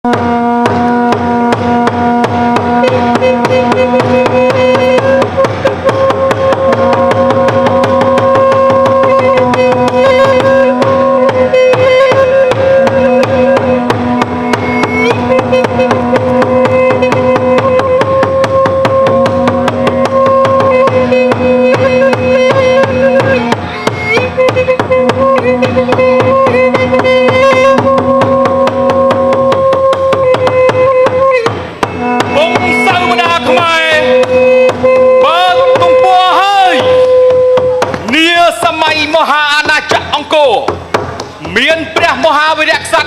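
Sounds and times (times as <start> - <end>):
fast steady drumming: 0.0 - 43.0
long-held melody line: 0.0 - 43.0.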